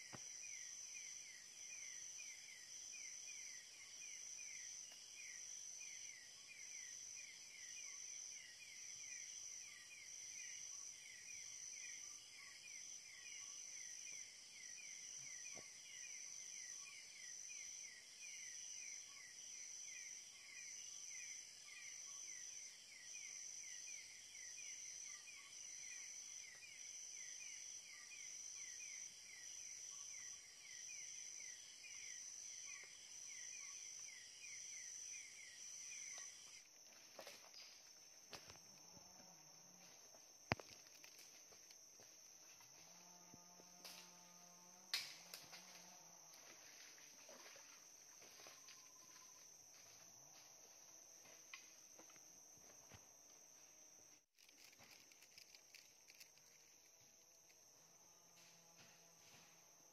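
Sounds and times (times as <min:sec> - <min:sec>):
insects chirping fast: 0:00.0 - 0:58.2.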